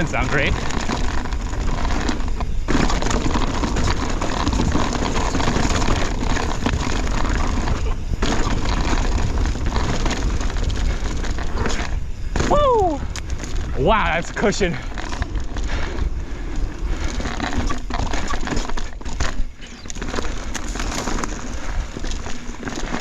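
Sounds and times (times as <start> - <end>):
tyres clattering over rocks: 0.0 - 16.1, 16.8 - 23.0
bike chain and frame noise: 0.0 - 23.0.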